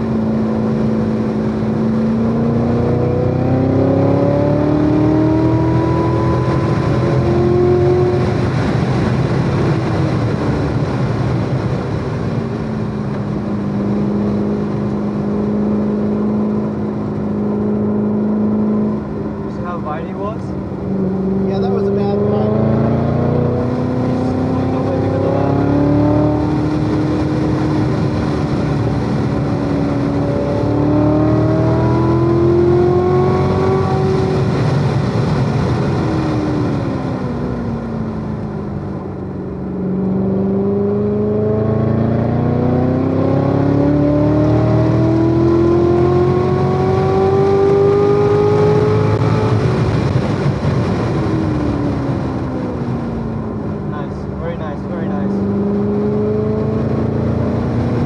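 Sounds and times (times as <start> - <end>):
sports car engine at full throttle: 0.0 - 58.0.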